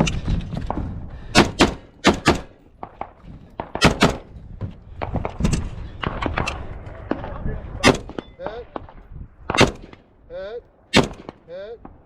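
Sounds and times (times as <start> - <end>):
gunshots: 0.0 - 4.3, 5.0 - 10.1, 10.9 - 12.0.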